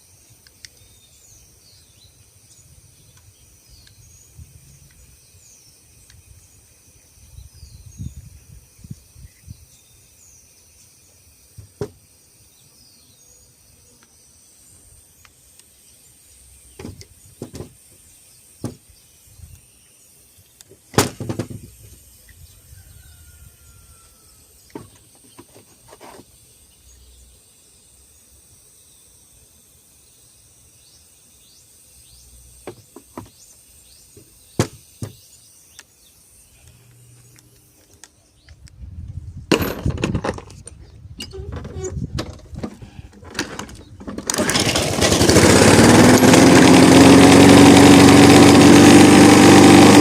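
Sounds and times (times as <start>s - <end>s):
insects chirping: 0.0s - 44.4s.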